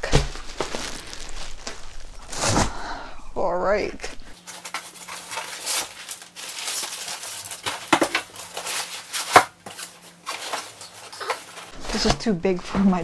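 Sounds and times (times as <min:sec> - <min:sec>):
packaging rustling in nylon bag: 0:00.0 - 0:02.9, 0:04.3 - 0:12.1.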